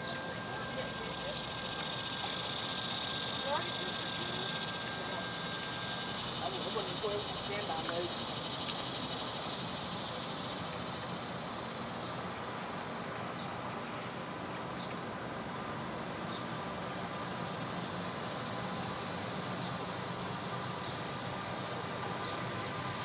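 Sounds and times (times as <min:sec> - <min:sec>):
insects trilling: 0:00.0 - 0:23.0
outdoor background hiss: 0:00.0 - 0:23.0.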